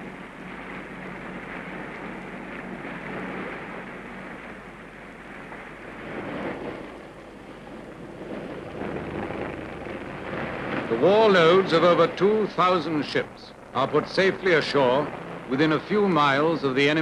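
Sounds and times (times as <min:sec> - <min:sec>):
boat noise: 0:00.0 - 0:17.0
rushing sea: 0:00.0 - 0:17.0.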